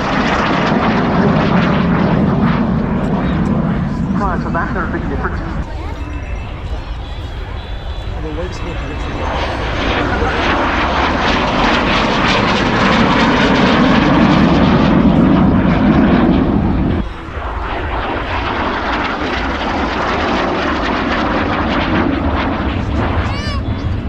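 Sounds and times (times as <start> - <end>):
aircraft engine flying past: 0.0 - 24.0.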